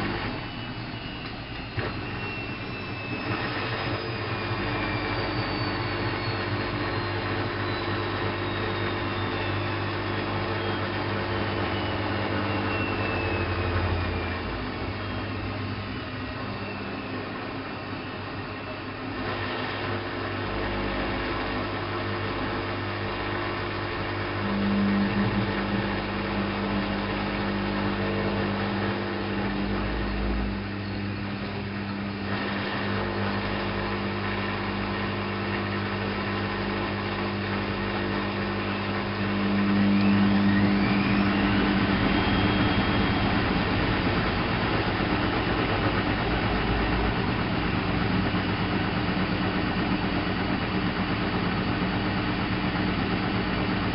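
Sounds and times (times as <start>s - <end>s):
washing machine hum: 0.0s - 53.9s.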